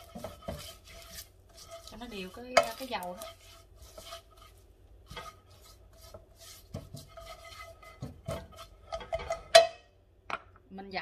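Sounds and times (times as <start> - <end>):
brush rubbing in frying pan: 0.0 - 9.6.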